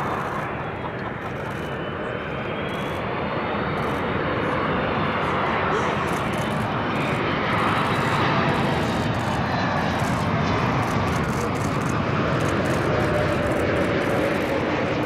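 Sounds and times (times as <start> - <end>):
faint whining engine tones: 0.0 - 15.0
jet airliner flying past: 0.0 - 15.0.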